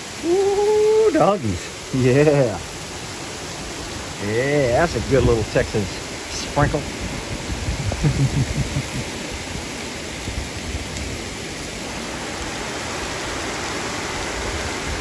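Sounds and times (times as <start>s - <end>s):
heavy rain on gravel and grass: 0.0s - 15.0s.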